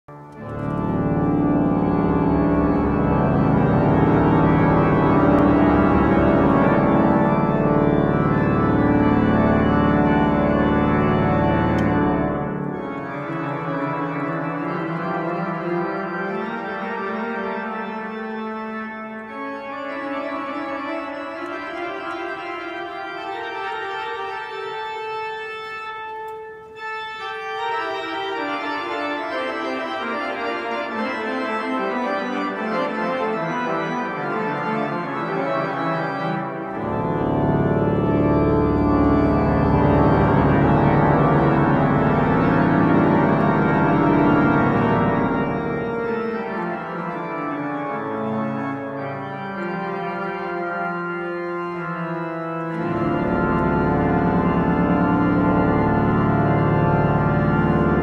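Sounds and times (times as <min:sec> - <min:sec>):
pipe organ chords: 0:00.1 - 0:58.0.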